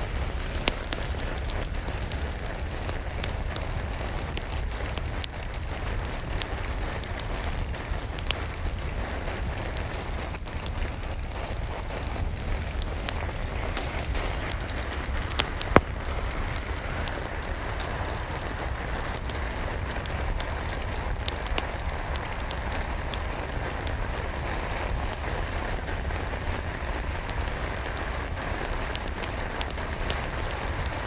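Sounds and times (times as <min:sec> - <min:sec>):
steady rain: 0:00.0 - 0:31.0
wood fire crackling and popping: 0:00.0 - 0:31.0.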